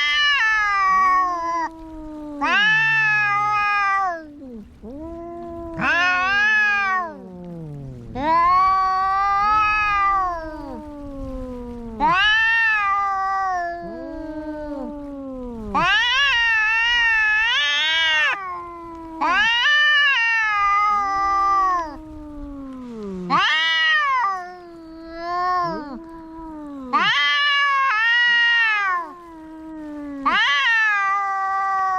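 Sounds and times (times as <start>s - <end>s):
cats yowling: 0.0s - 31.9s.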